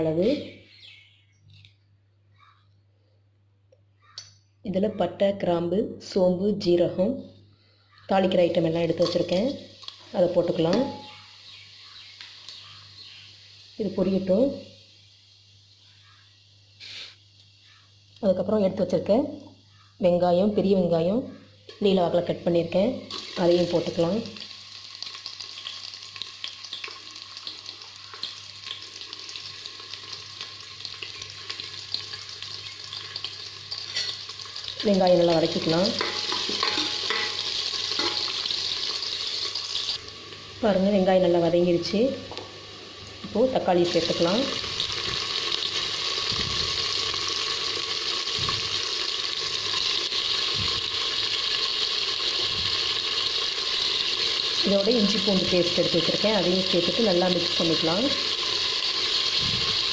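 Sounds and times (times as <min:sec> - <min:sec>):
onions sizzling in oil: 0:08.0 - 0:59.9.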